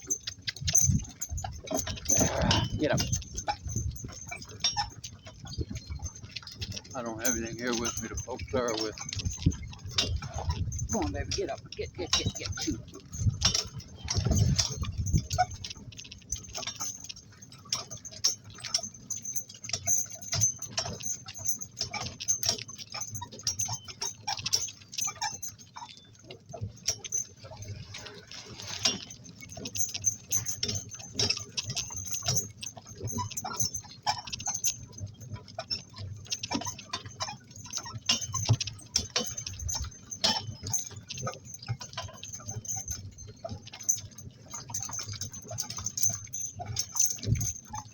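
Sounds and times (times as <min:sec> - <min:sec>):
harness and cart hardware jingling: 0:00.0 - 0:47.9.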